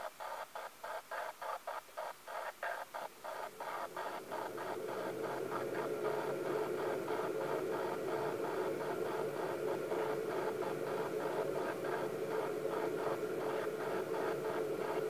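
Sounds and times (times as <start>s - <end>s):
constant hum: 0.0s - 15.0s
steady hiss: 0.0s - 15.0s.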